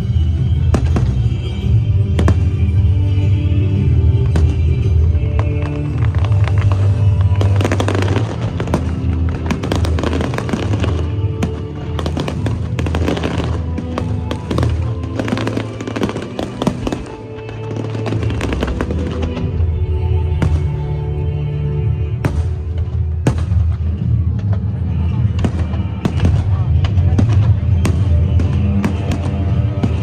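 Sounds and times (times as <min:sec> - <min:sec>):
fireworks crackling and popping: 0:00.0 - 0:30.0
music playing: 0:00.0 - 0:30.0.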